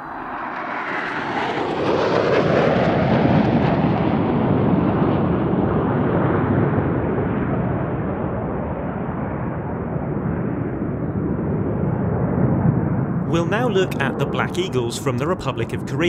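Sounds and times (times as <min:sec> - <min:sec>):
jet roar overhead: 0:00.0 - 0:16.0.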